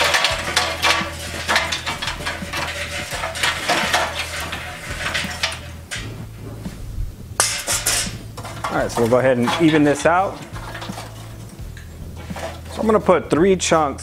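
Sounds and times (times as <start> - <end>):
charcoal clattering into metal basket: 0.0 - 6.4, 7.4 - 14.0.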